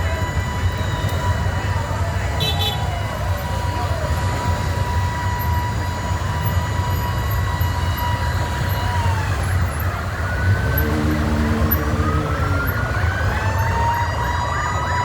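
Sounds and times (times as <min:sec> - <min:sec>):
siren wailing: 0:00.0 - 0:15.0
vehicle engines rumbling: 0:00.0 - 0:15.0.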